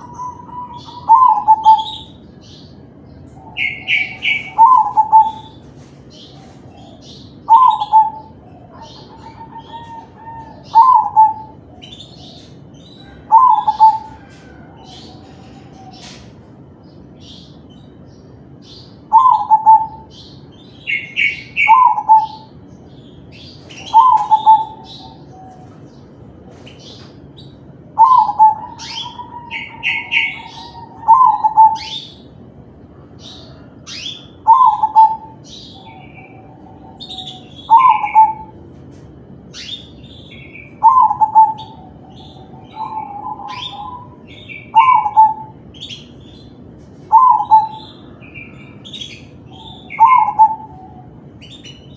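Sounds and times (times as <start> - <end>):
dove cooing: 0.0 - 17.4, 18.6 - 51.9.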